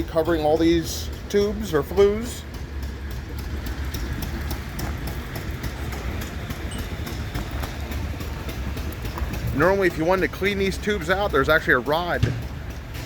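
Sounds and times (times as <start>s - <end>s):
engine rumbling with ticking clatter: 0.0s - 13.0s.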